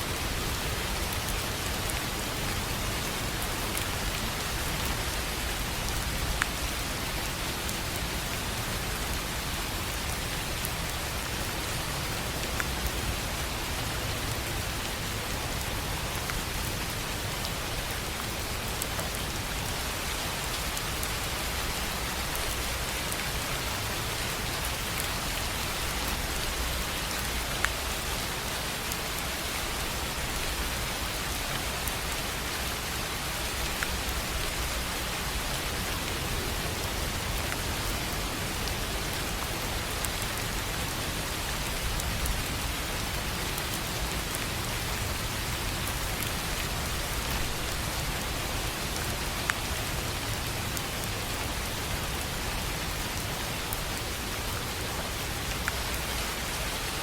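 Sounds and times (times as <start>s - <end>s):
rain on a tin roof: 0.0s - 57.0s.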